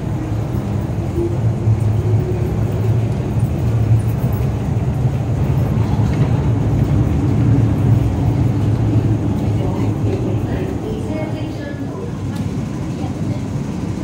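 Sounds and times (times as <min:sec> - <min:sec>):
metro train rumbling: 0:00.0 - 0:14.0.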